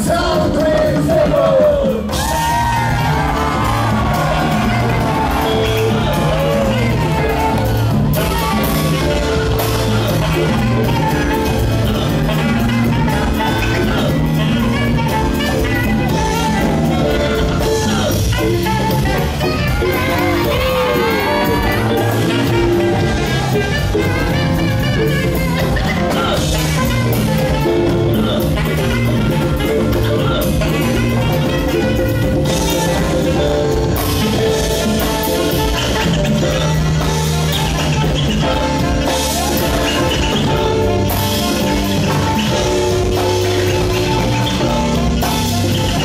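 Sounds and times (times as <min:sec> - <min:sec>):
congas: 0:00.0 - 0:46.0
drum kit: 0:00.0 - 0:46.0
electric guitars: 0:00.0 - 0:46.0.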